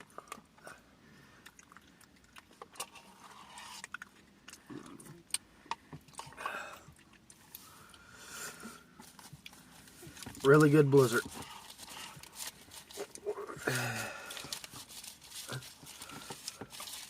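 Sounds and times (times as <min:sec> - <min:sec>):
chewing: 0:00.0 - 0:10.5, 0:11.2 - 0:17.0.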